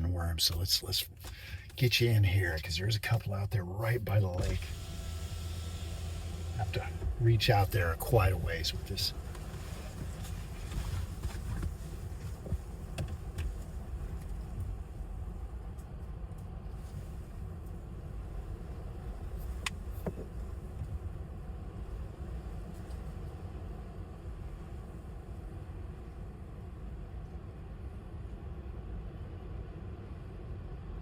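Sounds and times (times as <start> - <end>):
low rumble inside a car: 0.0 - 31.0.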